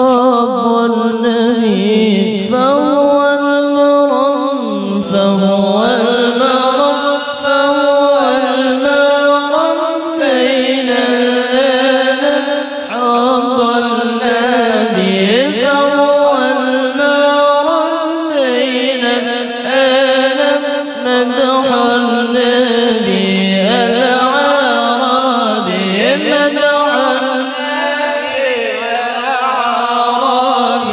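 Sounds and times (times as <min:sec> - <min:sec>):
person chanting over loudspeakers: 0:00.0 - 0:30.9.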